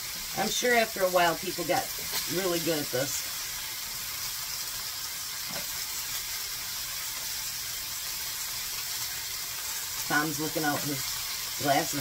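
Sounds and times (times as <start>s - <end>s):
meat and onions sizzling: 0.0s - 12.0s.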